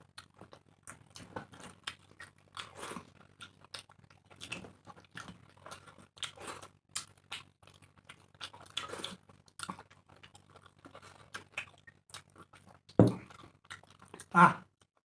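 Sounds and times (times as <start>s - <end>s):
people chewing and eating: 0.0s - 15.0s.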